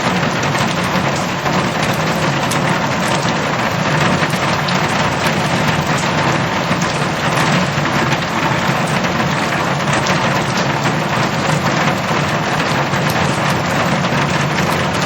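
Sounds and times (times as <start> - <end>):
heavy rain on a metal roof: 0.0 - 15.0.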